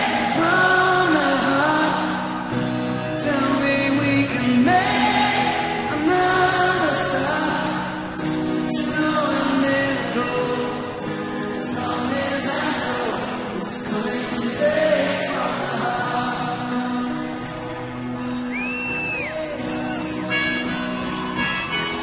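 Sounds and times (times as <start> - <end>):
song with sliding sung notes: 0.0 - 22.0.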